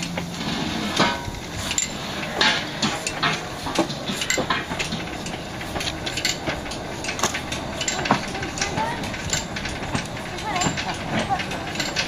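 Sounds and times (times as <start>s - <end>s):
metallic clanks and knocks: 0.0s - 12.0s
steam locomotive moving off: 0.0s - 12.0s.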